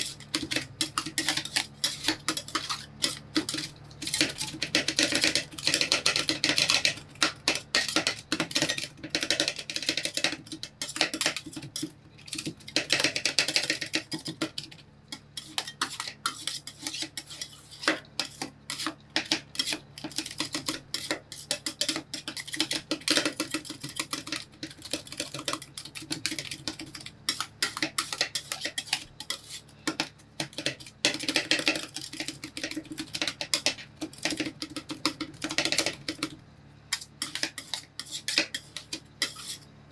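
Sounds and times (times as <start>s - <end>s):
spatula scraping metal plate: 0.0s - 36.1s, 36.9s - 39.7s
metal spatulas chopping on steel: 0.0s - 36.3s, 36.9s - 39.6s.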